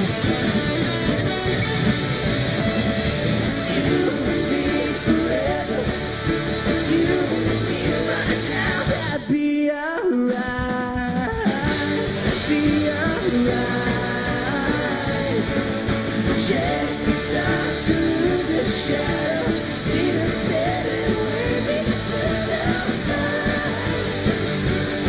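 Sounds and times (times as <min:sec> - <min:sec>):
pop-rock band playing: 0:00.0 - 0:25.0
person singing: 0:03.1 - 0:25.0.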